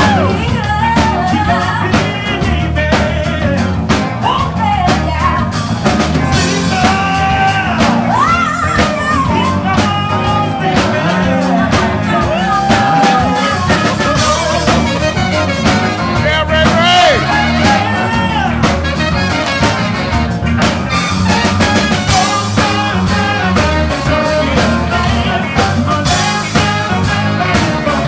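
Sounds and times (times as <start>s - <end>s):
person singing: 0.0s - 5.5s, 6.1s - 15.5s, 16.1s - 18.7s, 22.0s - 28.0s
bass guitar: 0.0s - 28.0s
drum kit: 0.0s - 28.0s
keyboard: 0.0s - 28.0s.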